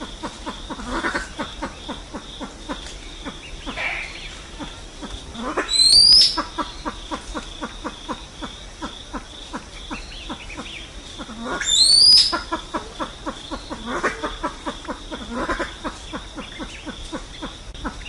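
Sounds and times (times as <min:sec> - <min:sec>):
pheasant clucking: 0:00.0 - 0:18.0.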